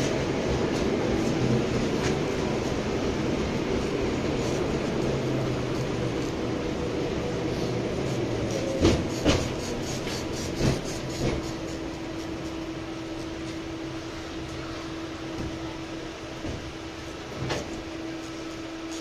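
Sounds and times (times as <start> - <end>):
tram running noise: 0.0 - 19.0.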